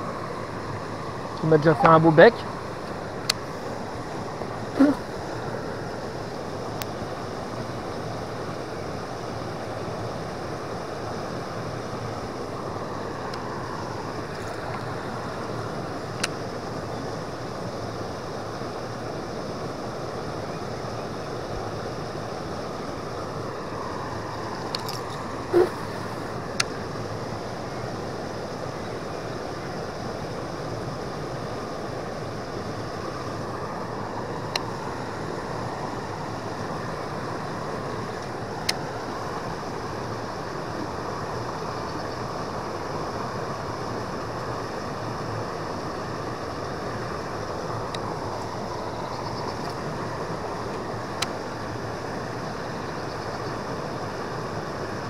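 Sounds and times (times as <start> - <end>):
river water pouring over weir: 0.0 - 52.9, 53.6 - 55.0.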